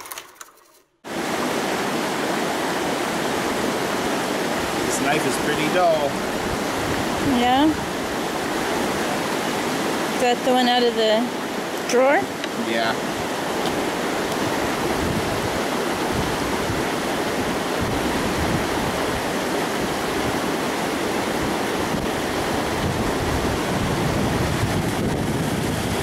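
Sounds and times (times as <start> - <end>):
river rushing over rocks: 1.1 - 26.0.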